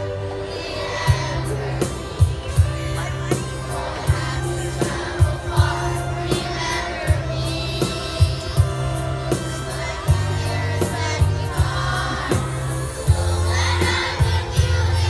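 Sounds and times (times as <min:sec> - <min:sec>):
backing music with bass and drums: 0:00.0 - 0:15.0
children's choir singing: 0:00.0 - 0:15.0.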